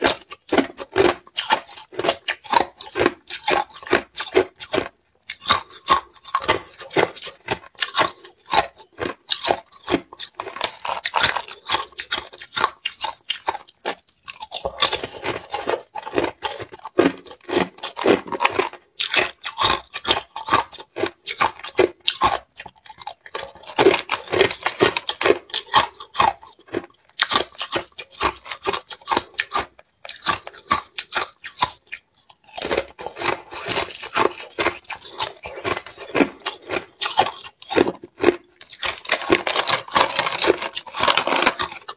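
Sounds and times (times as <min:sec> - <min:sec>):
ice being chewed crunching: 0:00.0 - 0:41.9.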